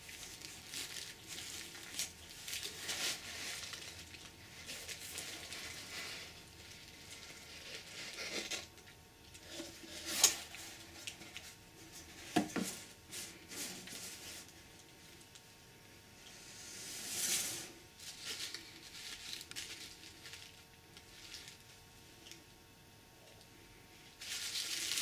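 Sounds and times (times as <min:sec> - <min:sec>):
bubble wrap crinkling: 0:00.0 - 0:15.5, 0:17.2 - 0:22.5, 0:23.9 - 0:25.0.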